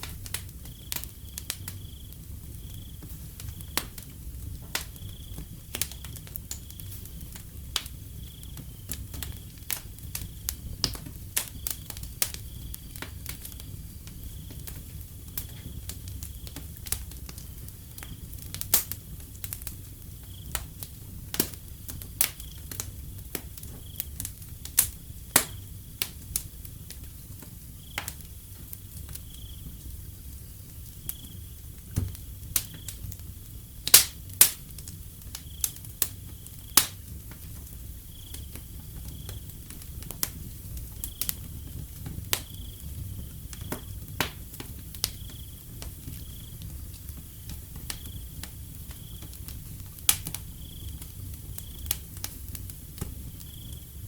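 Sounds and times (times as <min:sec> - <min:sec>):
low rumble of flames: 0:00.0 - 0:54.0
wood fire crackling and popping: 0:00.0 - 0:54.0
cricket chirping: 0:00.4 - 0:07.0, 0:07.9 - 0:10.8, 0:11.4 - 0:18.4, 0:19.9 - 0:20.7, 0:21.6 - 0:25.8, 0:27.7 - 0:34.2, 0:35.2 - 0:39.7, 0:40.3 - 0:44.1, 0:44.8 - 0:49.6, 0:50.4 - 0:52.4, 0:53.2 - 0:54.0.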